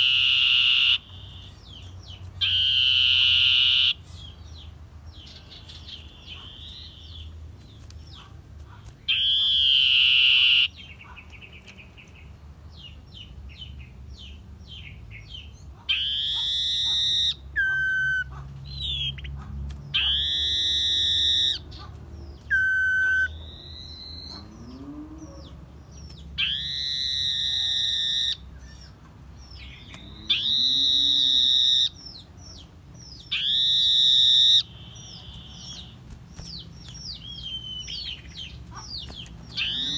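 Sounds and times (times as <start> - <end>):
soft bird chirps: 0.0 - 39.9.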